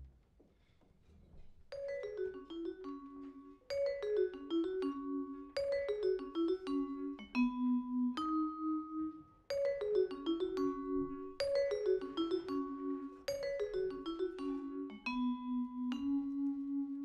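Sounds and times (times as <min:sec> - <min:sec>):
vibraphone played with mallets: 0:01.7 - 0:17.0.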